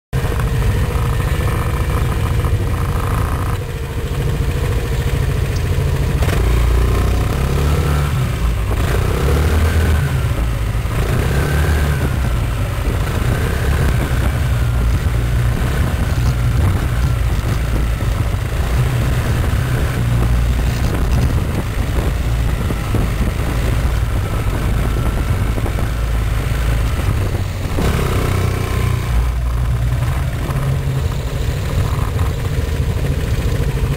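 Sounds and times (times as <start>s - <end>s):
scooter engine running: 0.2s - 33.9s
strange noise from rear wheel: 0.2s - 33.9s.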